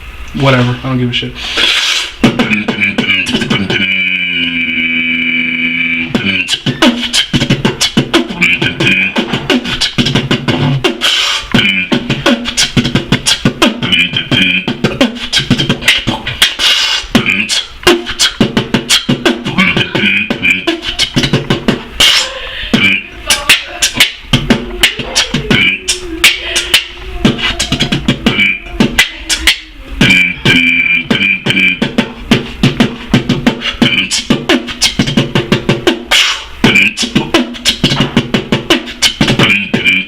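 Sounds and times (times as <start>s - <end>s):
held vocal note: 0.4s - 35.4s, 36.1s - 38.0s, 39.0s - 40.0s
beatboxing mouth percussion: 1.4s - 40.0s.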